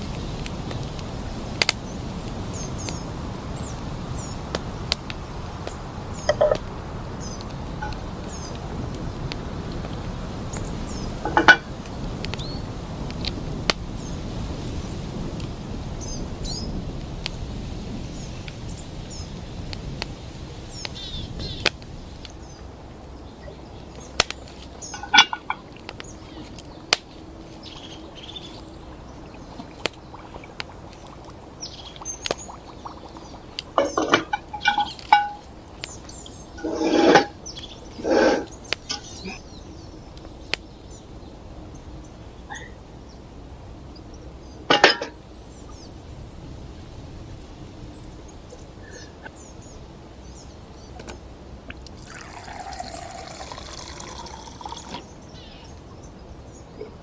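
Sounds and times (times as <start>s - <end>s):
small birds chirping: 0.0s - 46.2s, 47.9s - 51.1s.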